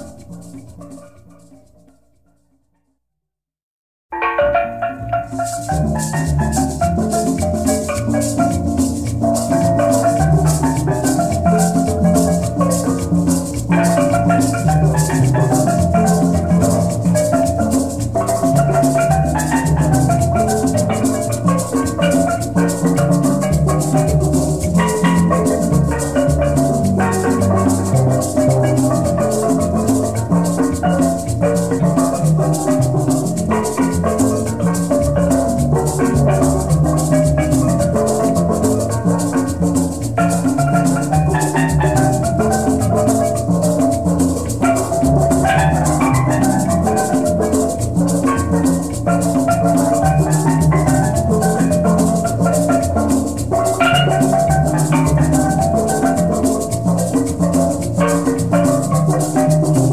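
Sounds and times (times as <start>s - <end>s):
background music with fast beat: 0.0s - 1.9s, 4.1s - 59.9s.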